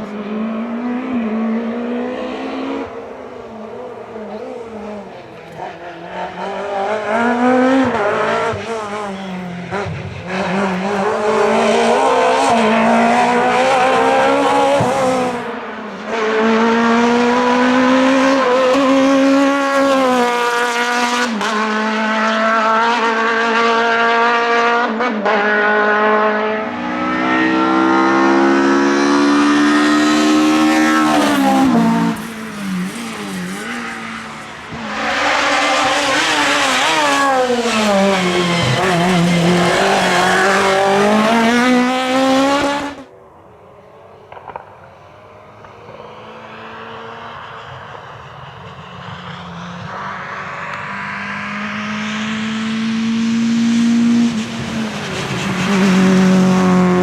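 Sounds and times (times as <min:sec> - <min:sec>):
rally car engine at full throttle: 0:00.0 - 0:57.0.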